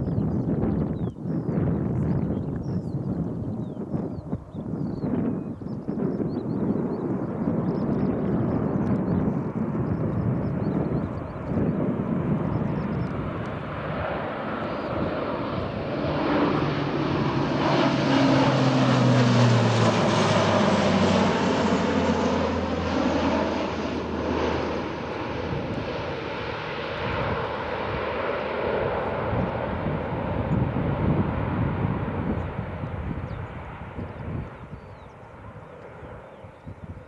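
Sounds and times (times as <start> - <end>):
military aircraft flying past: 0.0 - 37.0.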